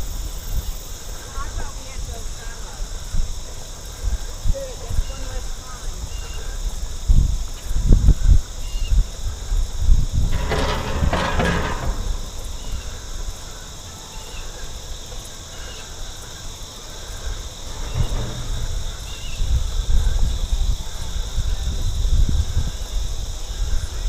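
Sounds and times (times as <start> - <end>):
insects droning: 0.0 - 24.0
wind rumbling on microphone: 0.0 - 24.0.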